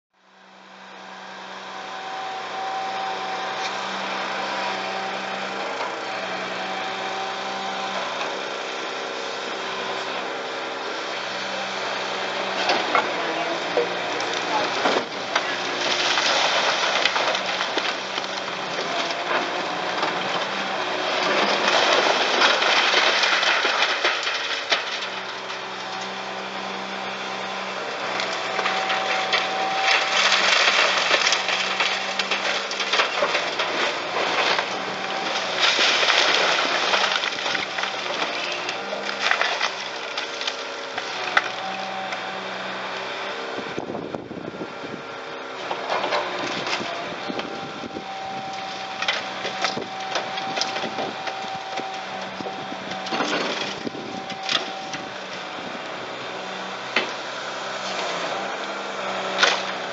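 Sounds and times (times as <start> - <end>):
excavator engine and hydraulics: 0.2 - 59.9
masonry crumbling and crashing: 2.6 - 42.5, 45.5 - 59.9.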